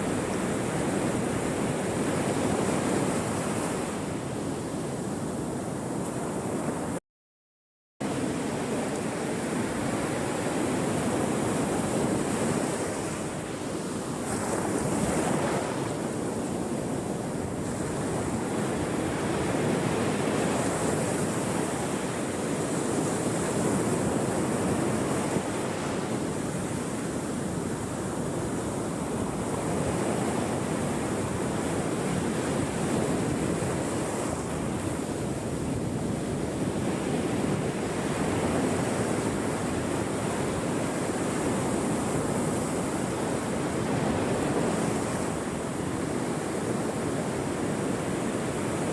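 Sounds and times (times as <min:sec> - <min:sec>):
ocean waves breaking: 0:08.1 - 0:48.9.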